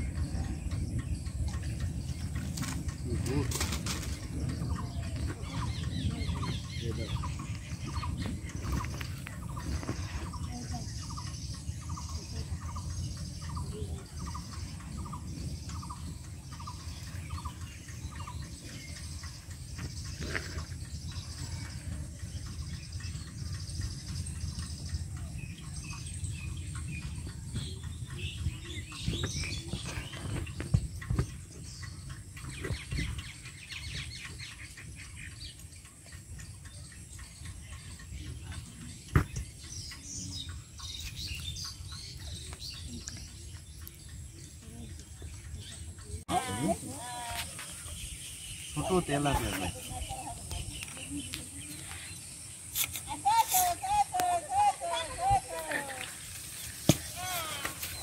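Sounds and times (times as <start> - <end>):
bird calling: 0.0 - 58.0
low outdoor rumble: 0.0 - 58.0.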